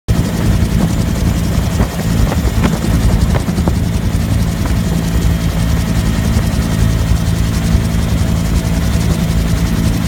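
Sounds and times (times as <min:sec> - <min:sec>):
helicopter turbine and rotor drone: 0:00.1 - 0:10.0.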